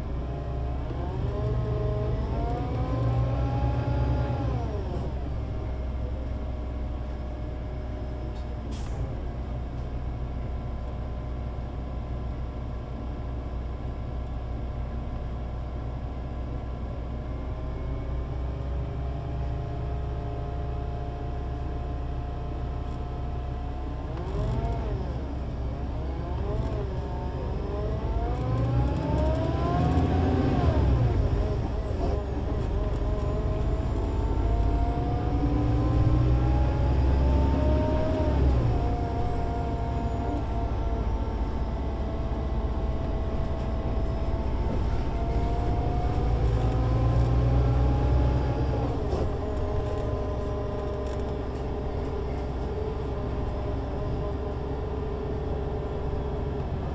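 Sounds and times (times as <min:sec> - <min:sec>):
bus diesel engine accelerating: 0:00.0 - 0:56.9.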